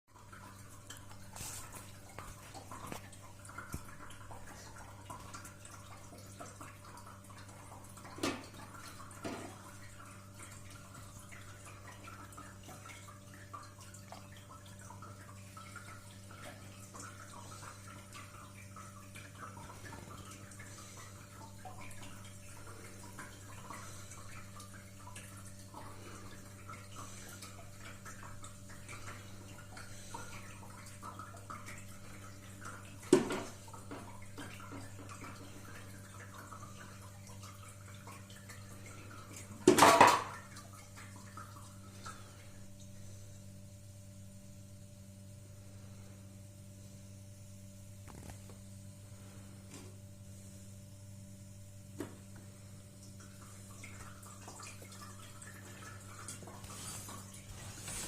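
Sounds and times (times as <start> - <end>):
water trickling and dripping: 0.1 - 58.0.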